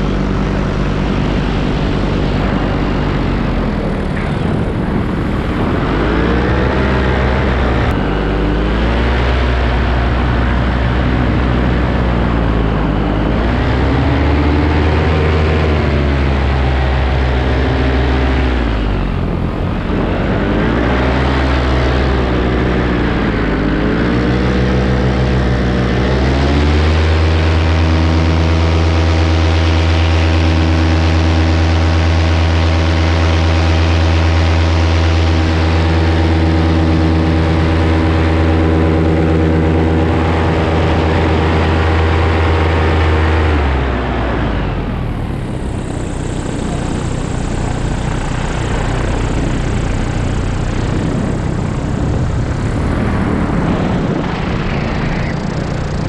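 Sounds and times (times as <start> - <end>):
paramotor engine and propeller: 0.0 - 56.0
wind noise: 0.0 - 56.0.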